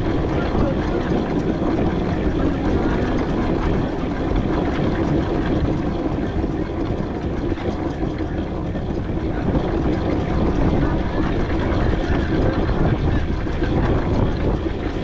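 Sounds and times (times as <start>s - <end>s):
steam traction engine running: 0.0s - 15.0s.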